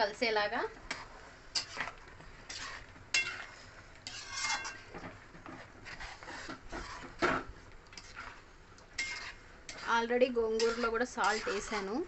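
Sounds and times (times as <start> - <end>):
spoon stirring in metal pot: 0.8 - 12.0.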